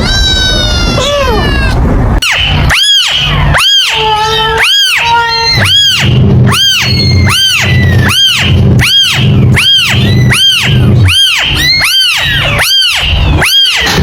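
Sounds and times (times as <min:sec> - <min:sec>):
kitten mewing: 0:00.0 - 0:01.8, 0:02.7 - 0:14.0.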